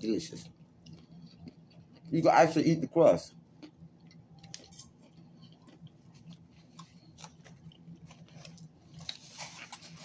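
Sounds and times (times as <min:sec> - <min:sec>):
chewing crunchy crust: 0:00.2 - 0:10.0.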